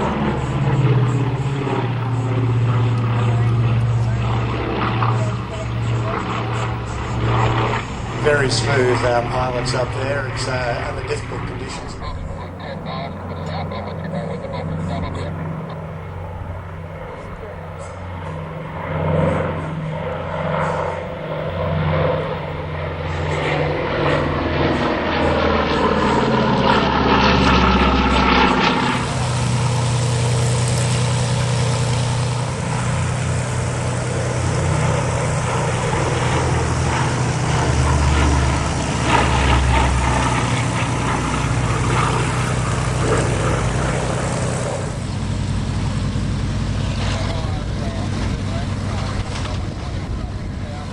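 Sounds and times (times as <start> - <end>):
propeller aircraft flying past: 0.0 - 50.9
steady engine drone: 0.0 - 50.9.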